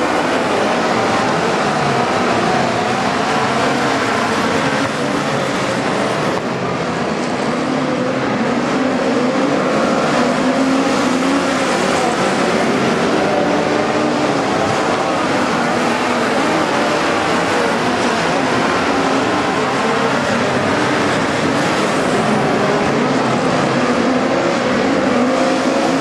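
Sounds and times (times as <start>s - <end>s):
race car engines running hard: 0.0s - 26.0s.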